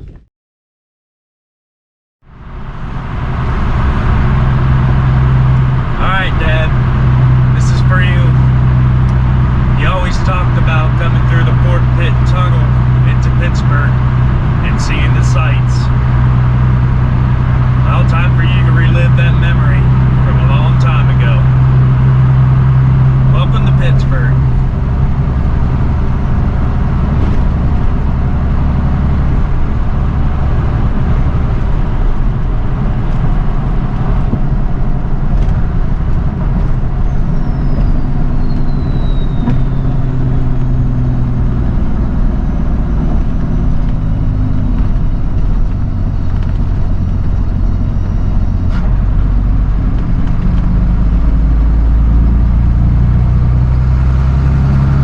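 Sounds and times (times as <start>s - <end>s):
truck engine and road drone: 2.2s - 55.0s.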